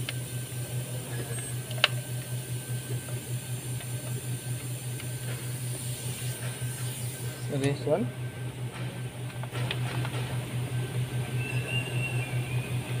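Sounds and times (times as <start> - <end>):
pulsing machine hum: 0.0 - 13.0.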